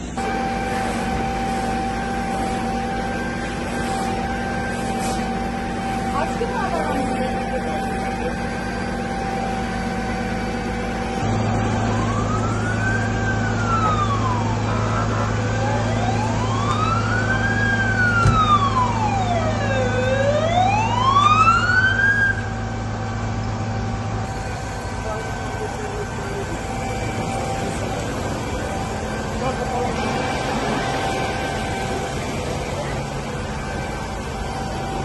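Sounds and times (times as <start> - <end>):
emergency siren wailing: 0.0 - 35.0
steady low hum: 0.0 - 35.0.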